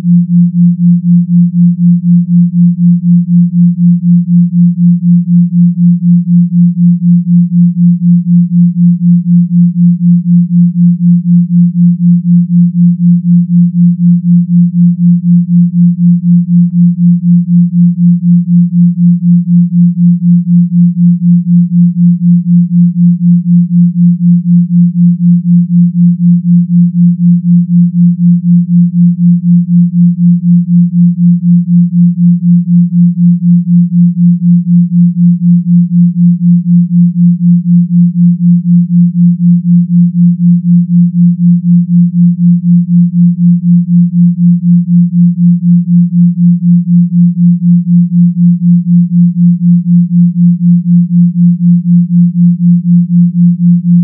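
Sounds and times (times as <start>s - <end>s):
low pulsing sine hum: 0.0s - 54.0s.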